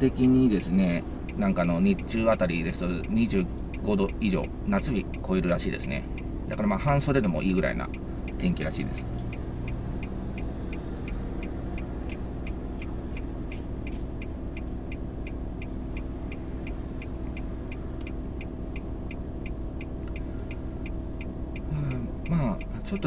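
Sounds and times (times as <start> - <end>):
car engine idling: 0.0 - 23.0
turn signal ticking: 0.0 - 23.0.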